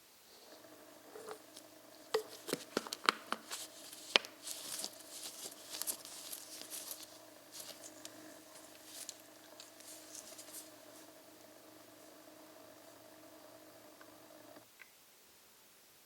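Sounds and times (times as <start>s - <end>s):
faint steady hum: 0.0s - 16.0s
light rustling: 0.3s - 14.6s.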